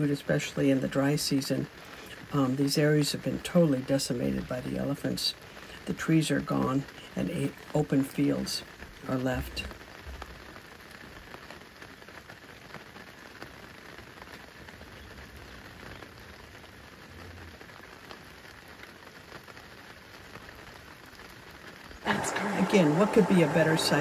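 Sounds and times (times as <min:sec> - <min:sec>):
rain falling: 0:00.0 - 0:24.0
raindrops ticking: 0:00.0 - 0:24.0.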